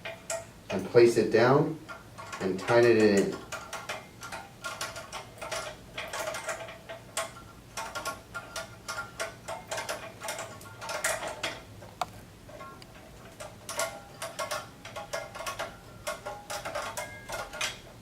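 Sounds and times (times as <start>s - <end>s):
light clicks and scrapes of metal parts: 0.0s - 18.0s.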